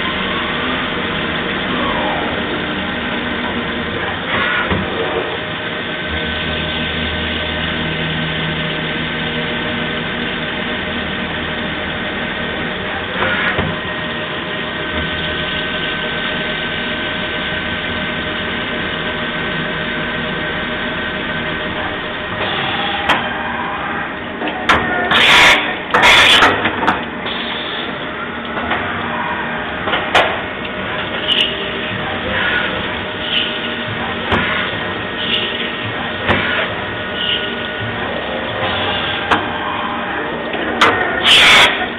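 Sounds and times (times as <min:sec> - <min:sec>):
machine milling metal: 0:00.0 - 0:41.9.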